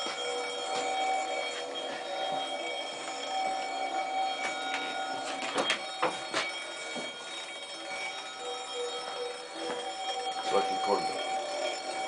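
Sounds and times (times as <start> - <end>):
kiln burner hissing and whistling: 0.0 - 12.0.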